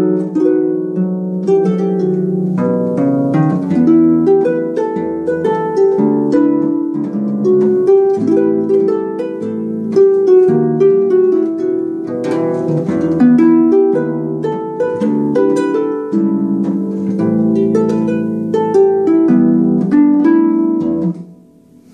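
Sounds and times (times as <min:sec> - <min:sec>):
harp playing jazz: 0:00.0 - 0:21.9.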